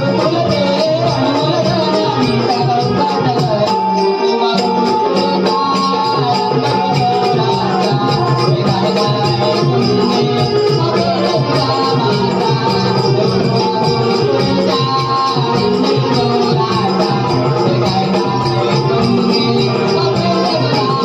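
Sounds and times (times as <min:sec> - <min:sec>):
jingling rattling percussion: 0:00.0 - 0:21.0.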